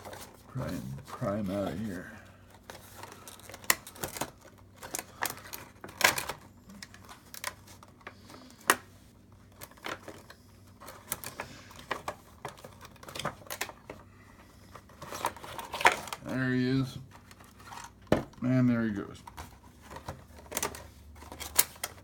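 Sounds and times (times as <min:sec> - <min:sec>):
plastic and cardboard crackling: 0:00.0 - 0:22.0.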